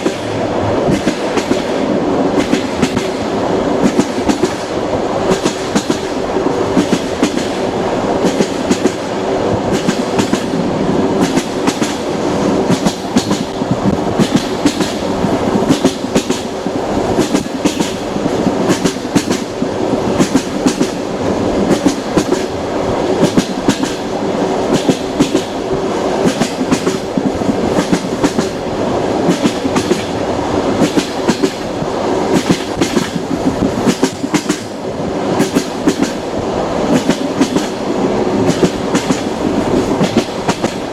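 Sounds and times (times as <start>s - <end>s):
train wheels clacking on rails: 0.0s - 40.9s.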